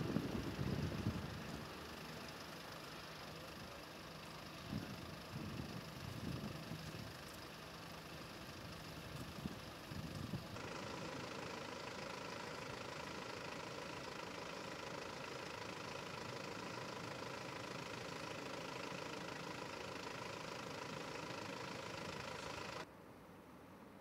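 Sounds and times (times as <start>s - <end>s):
vehicle engine idling: 0.0s - 22.9s.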